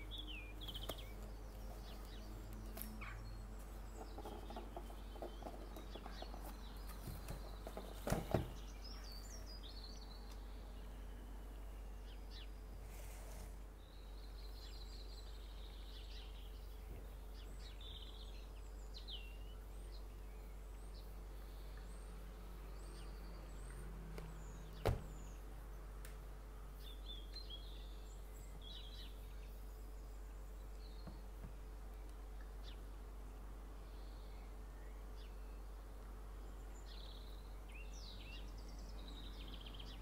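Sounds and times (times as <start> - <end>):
birds chirping faintly: 0.0 - 40.0.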